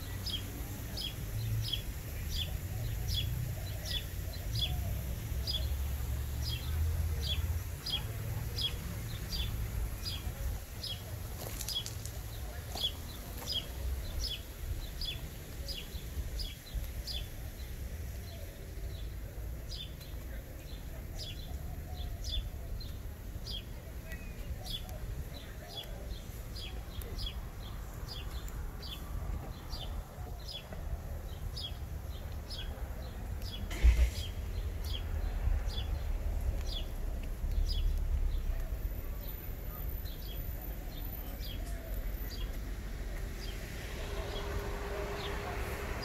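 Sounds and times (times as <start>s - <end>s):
low outdoor rumble: 0.0s - 46.0s
songbird chirping: 0.0s - 46.0s.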